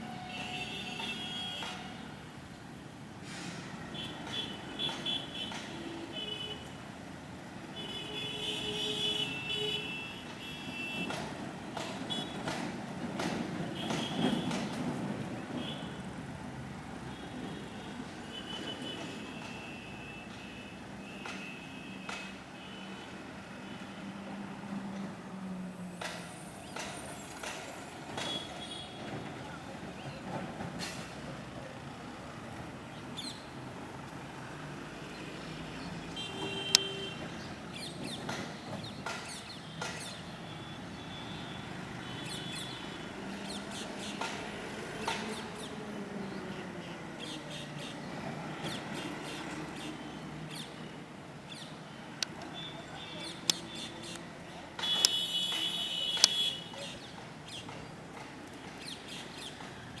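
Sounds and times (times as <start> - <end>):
road traffic noise: 0.0 - 60.0.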